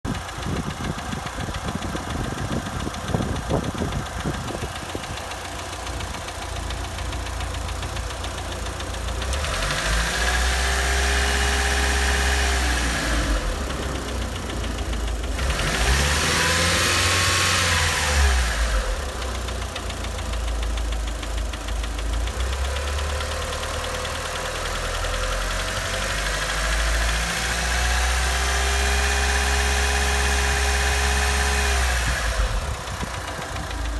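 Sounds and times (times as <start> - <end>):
car engine revving: 2.5 - 33.9.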